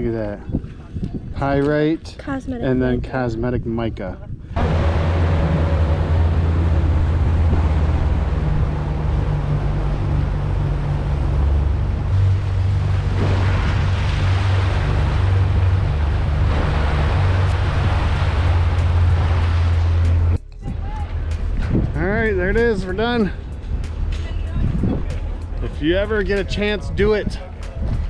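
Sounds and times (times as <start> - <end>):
wind rushing: 4.4 - 28.0
water rushing: 4.6 - 27.9
boat motor running: 4.6 - 28.0.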